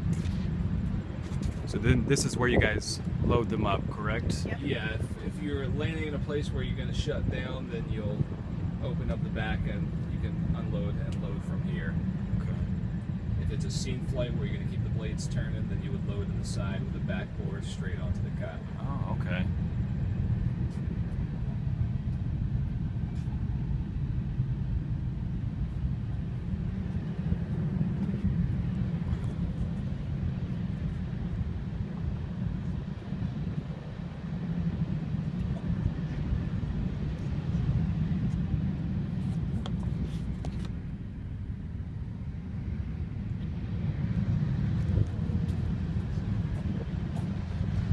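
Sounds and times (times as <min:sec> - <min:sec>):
helicopter rumble: 0:00.0 - 0:47.9.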